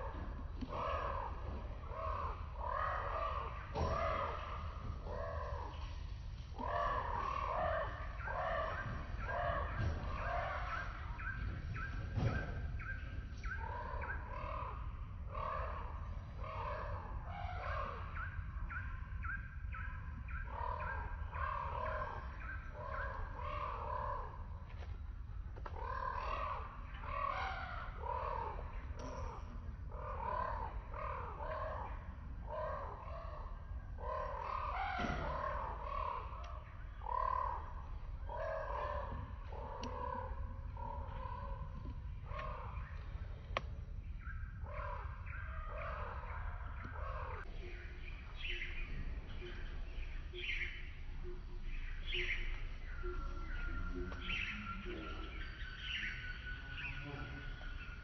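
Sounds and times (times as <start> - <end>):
birds calling harshly: 0.0 - 58.0.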